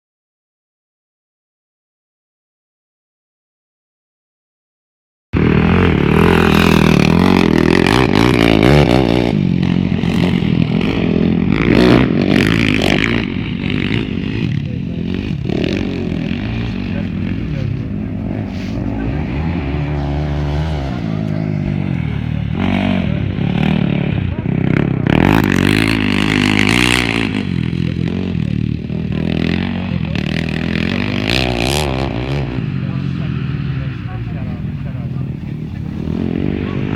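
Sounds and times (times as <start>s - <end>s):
motorcycle engines revving: 5.4s - 36.9s.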